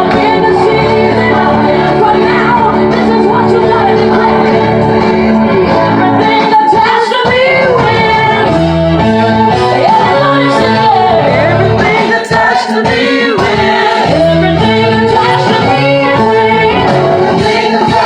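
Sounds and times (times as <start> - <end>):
instrumental backing with bass: 0.0 - 18.0
voices singing: 0.0 - 18.0.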